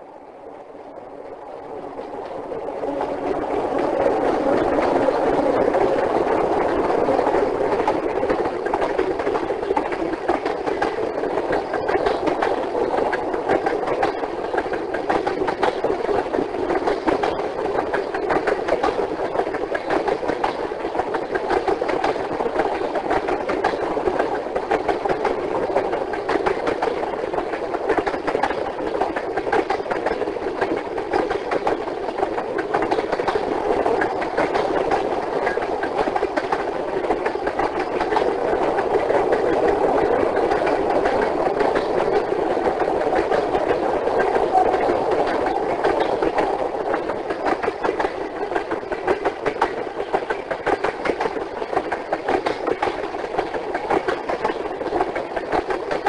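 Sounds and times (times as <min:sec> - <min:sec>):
train running with clatter: 0:00.0 - 0:56.0.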